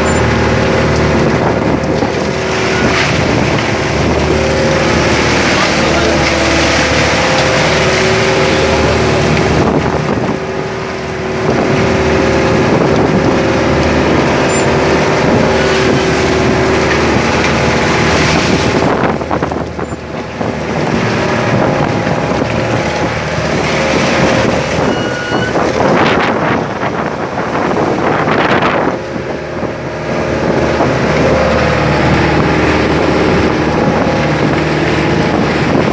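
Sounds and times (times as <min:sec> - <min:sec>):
boat engine running: 0:00.0 - 0:35.9
rushing sea: 0:00.0 - 0:35.9
wind noise on microphone: 0:00.0 - 0:35.9.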